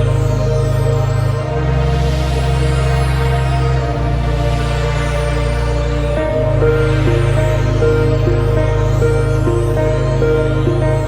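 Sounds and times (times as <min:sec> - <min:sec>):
sustained low synth notes: 0:00.0 - 0:11.0.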